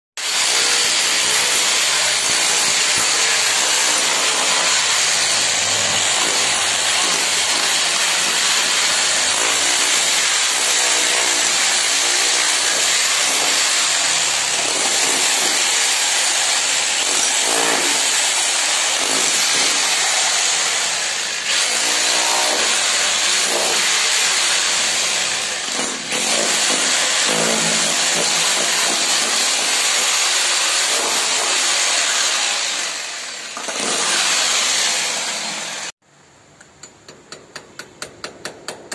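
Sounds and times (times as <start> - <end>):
rotary hammer chiselling masonry: 0.2 - 32.4, 36.7 - 38.9.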